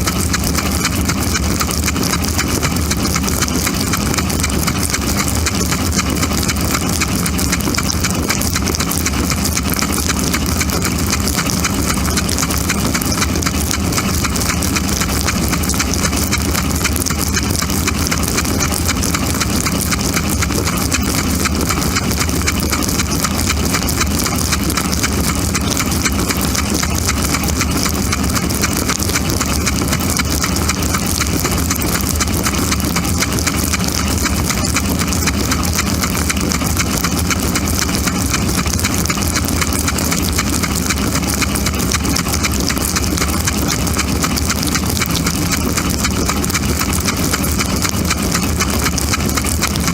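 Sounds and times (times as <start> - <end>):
pump motor hum: 0.0 - 49.9
water jets spraying: 0.0 - 49.9.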